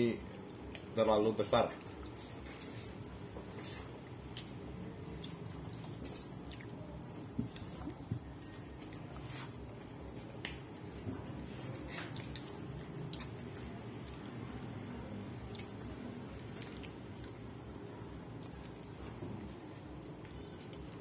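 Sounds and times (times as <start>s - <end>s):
low background noise: 0.0s - 21.0s
wet chewing and mouth sounds: 0.2s - 21.0s.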